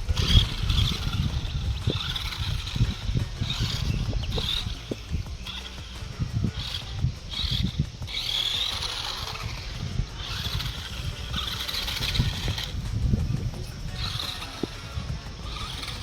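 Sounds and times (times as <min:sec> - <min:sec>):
low rumbling with small knocks: 0:00.0 - 0:16.0
toy truck motor whirring: 0:00.0 - 0:16.0.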